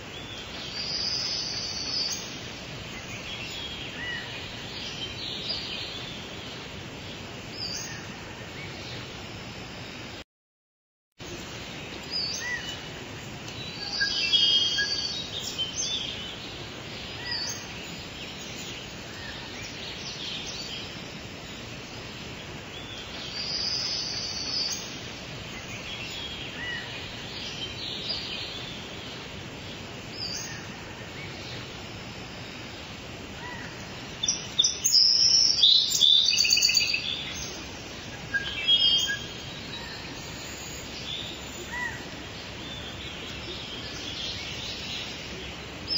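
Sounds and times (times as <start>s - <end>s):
songbirds chirping: 0.0s - 10.2s, 11.2s - 45.9s
steady background hiss: 0.0s - 10.2s, 11.2s - 45.9s.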